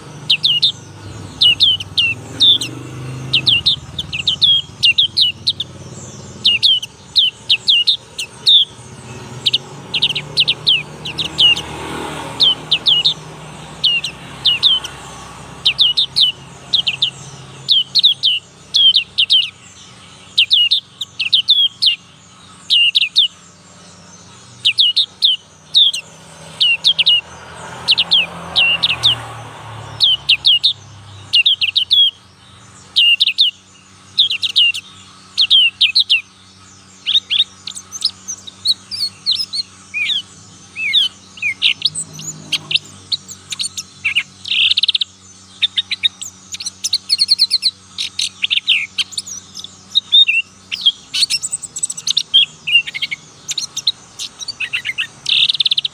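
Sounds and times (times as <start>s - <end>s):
bird chirping: 0.0s - 55.9s.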